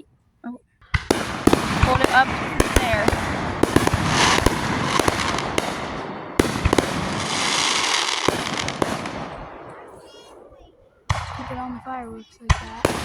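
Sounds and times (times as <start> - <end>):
fireworks popping and crackling: 0.8 - 13.0
firework bang: 1.0 - 13.0.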